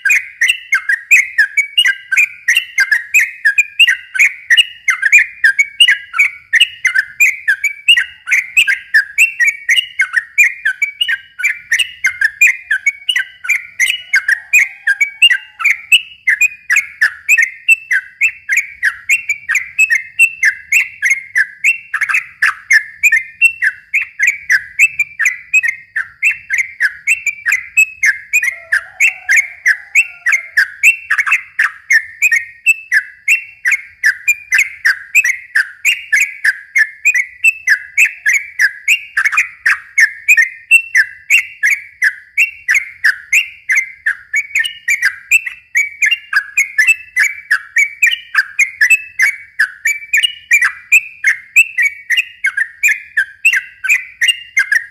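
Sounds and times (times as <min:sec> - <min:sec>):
bird chattering song: 0:00.0 - 0:54.9.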